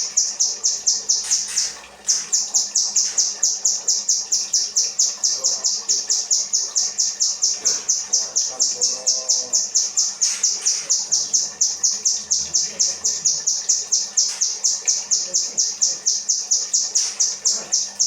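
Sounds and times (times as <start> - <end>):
bird singing high chirps: 0.0 - 18.0.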